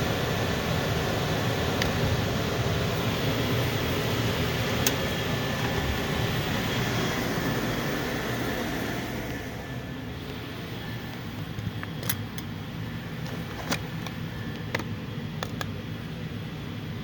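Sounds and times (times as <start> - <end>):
furnace burner and blower rushing: 0.0 - 17.0.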